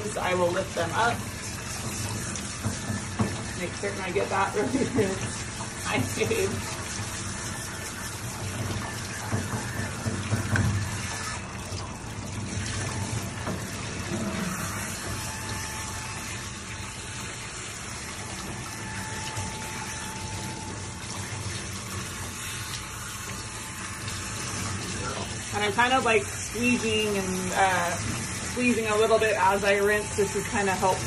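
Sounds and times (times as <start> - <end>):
water splashes: 0.0 - 31.0.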